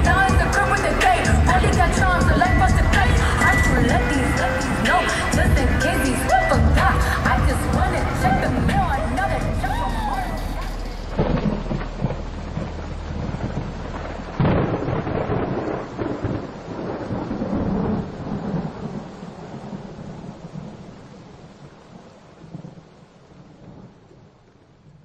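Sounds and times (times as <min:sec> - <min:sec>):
rain hissing: 0:00.0 - 0:25.0
thunder rumbling: 0:00.0 - 0:25.0.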